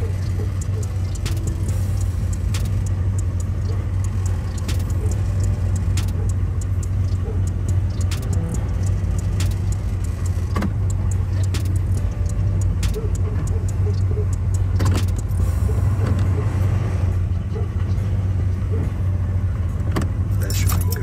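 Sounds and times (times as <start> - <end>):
car engine low hum: 0.0 - 21.0.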